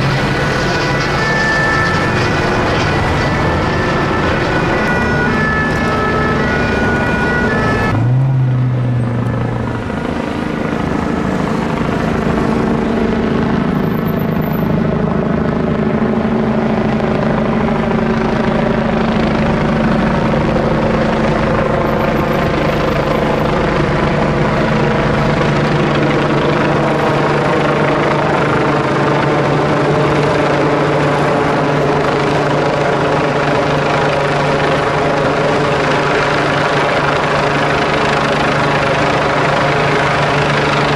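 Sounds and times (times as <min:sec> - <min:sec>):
helicopter hovering overhead: 0:00.0 - 0:40.9
two-tone emergency siren: 0:00.0 - 0:40.9.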